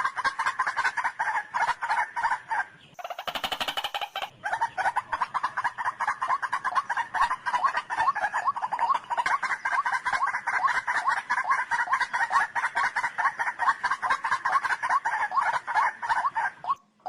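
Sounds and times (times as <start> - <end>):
bird calling in rapid notes: 0.0 - 16.8.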